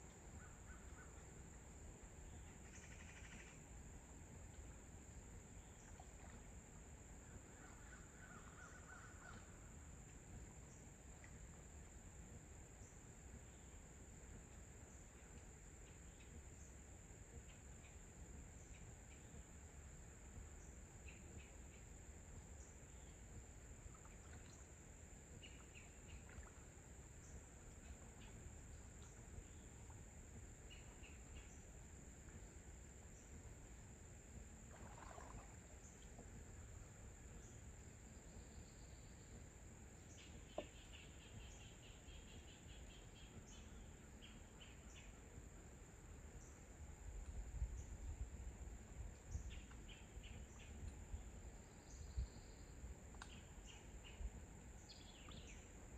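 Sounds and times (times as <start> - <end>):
soft low background hiss: 0.0 - 55.9.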